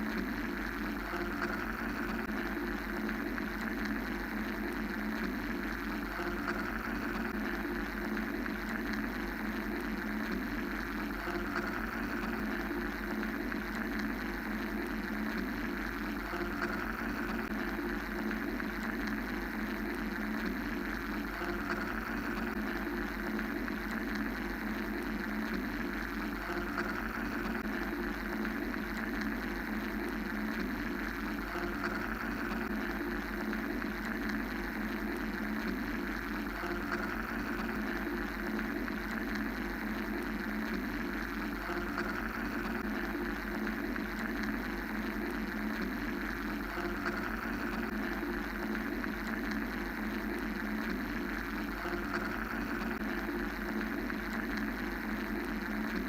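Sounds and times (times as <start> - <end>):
mechanical white-noise drone: 0.0 - 56.0.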